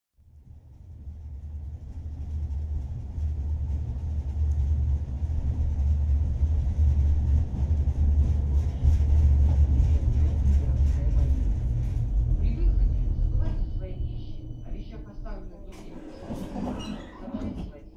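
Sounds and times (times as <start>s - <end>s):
tram rumbling on track: 0.2s - 17.9s.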